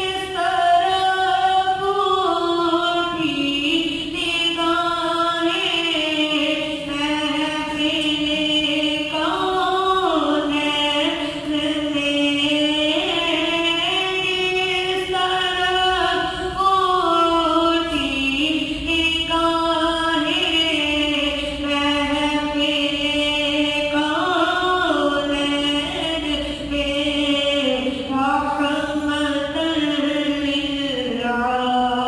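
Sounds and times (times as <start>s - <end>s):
boy singing unaccompanied: 0.0s - 32.0s.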